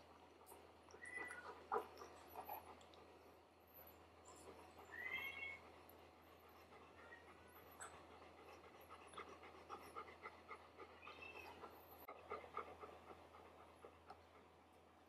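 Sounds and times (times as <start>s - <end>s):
dog panting: 0.0s - 3.3s, 4.3s - 15.0s.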